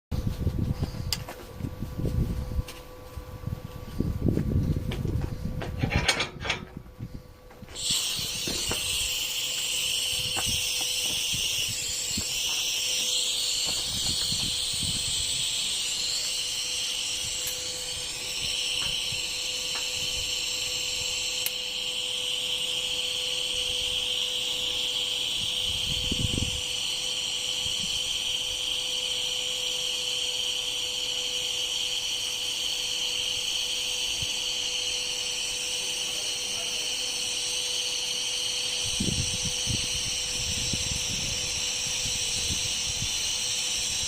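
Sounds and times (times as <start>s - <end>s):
welding arc crackling and hissing: 7.6s - 44.0s.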